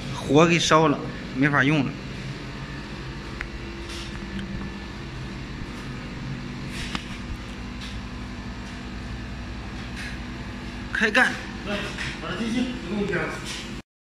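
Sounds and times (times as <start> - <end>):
low mechanical motor hum: 0.0 - 13.8.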